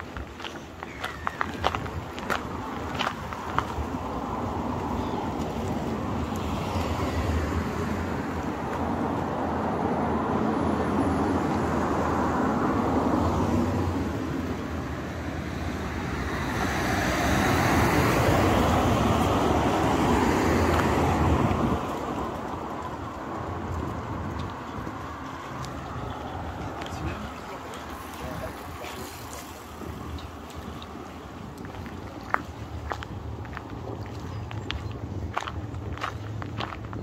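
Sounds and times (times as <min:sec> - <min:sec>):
cars passing on road: 0:00.0 - 0:37.0.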